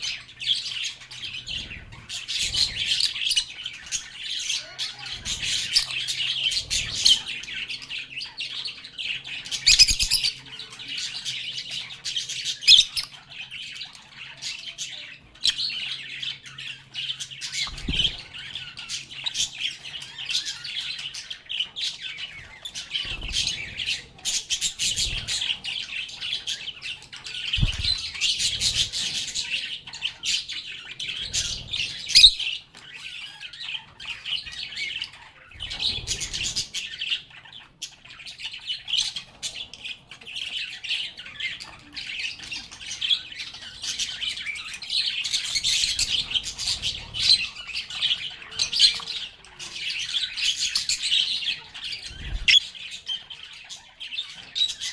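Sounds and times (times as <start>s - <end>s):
lovebirds chattering: 0.0s - 54.9s.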